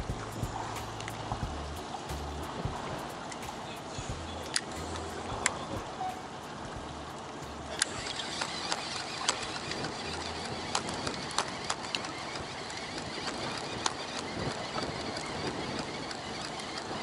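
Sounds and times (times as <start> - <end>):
rushing wind: 0.0 - 17.0
water noise: 0.0 - 17.0.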